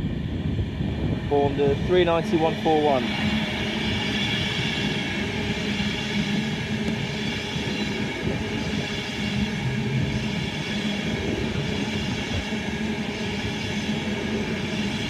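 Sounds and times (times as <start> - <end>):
electric train passing rumble: 0.0 - 15.0.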